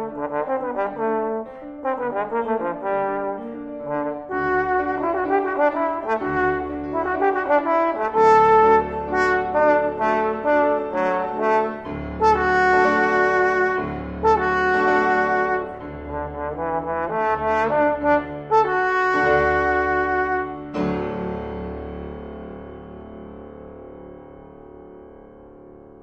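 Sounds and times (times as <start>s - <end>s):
trombone melody: 0.0s - 21.9s
piano accompaniment: 0.0s - 26.0s.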